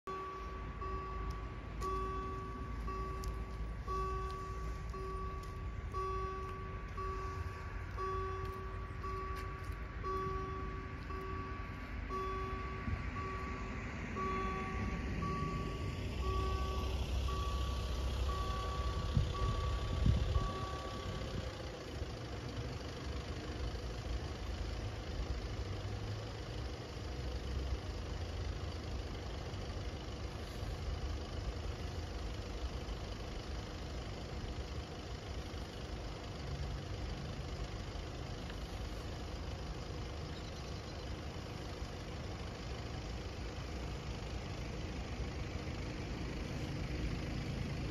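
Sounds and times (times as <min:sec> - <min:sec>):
car engine idling: 0:00.0 - 0:47.9
level crossing warning bells: 0:00.0 - 0:47.9.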